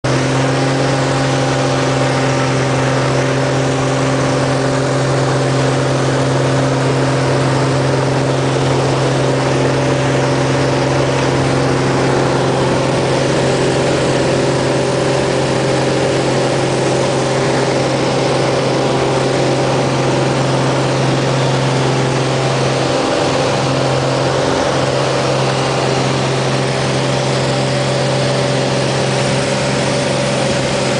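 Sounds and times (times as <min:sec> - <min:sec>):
propeller plane engine drone: 0:00.0 - 0:30.9.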